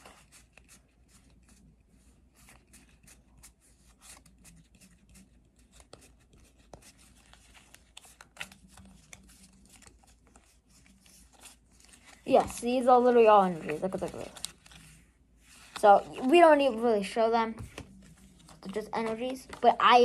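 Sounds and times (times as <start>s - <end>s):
trading cards rustling: 0.0s - 20.0s.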